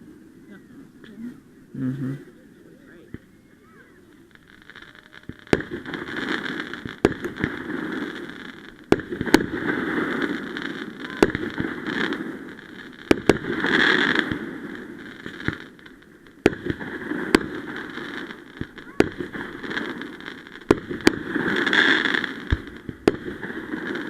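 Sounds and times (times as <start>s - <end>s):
crackling hiss: 0.0s - 24.0s
fireworks bangs: 0.9s - 24.0s.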